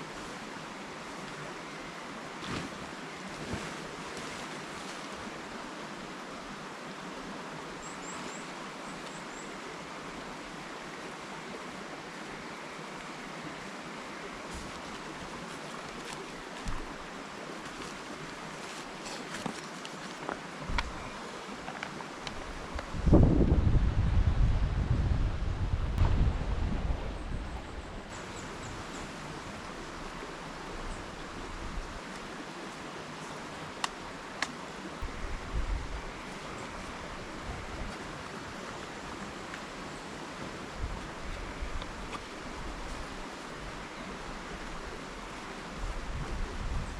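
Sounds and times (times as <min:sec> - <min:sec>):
river rushing: 0:00.0 - 0:23.5, 0:25.6 - 0:46.9.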